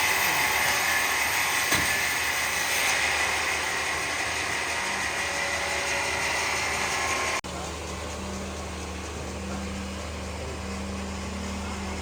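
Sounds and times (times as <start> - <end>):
workshop machine running: 0.0 - 12.0.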